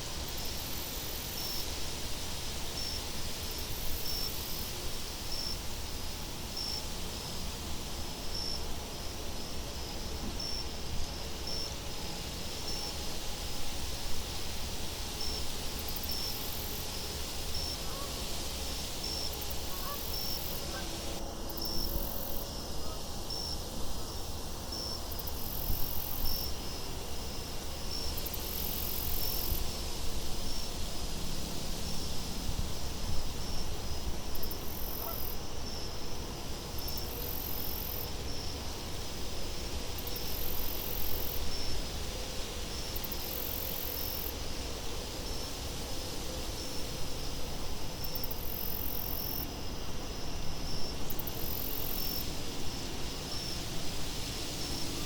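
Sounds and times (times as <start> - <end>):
crickets chirping: 0.0 - 55.0
wind with low rumble: 0.0 - 55.0.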